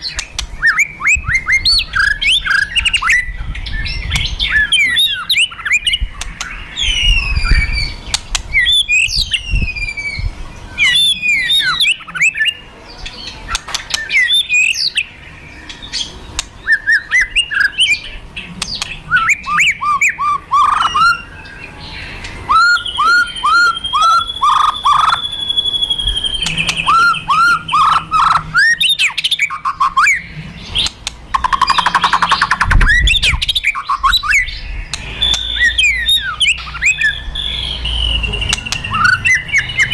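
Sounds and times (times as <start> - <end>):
bird singing sharp whistled notes: 0.0 - 12.6, 18.8 - 39.9.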